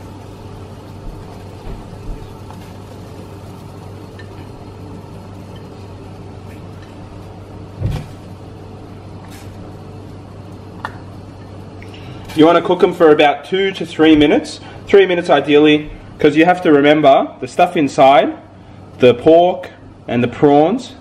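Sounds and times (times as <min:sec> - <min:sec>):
water boiling on gas burner: 0:00.0 - 0:20.8.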